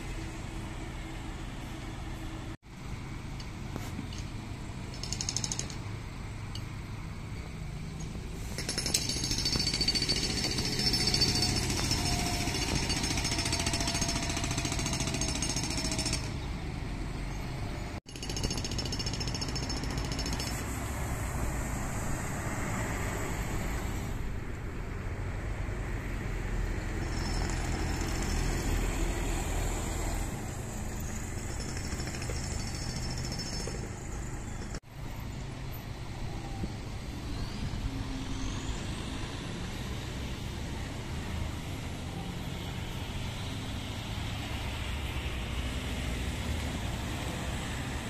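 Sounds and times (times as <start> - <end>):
bus engines: 0.0 - 18.0, 19.2 - 48.0
passing traffic: 0.0 - 48.0.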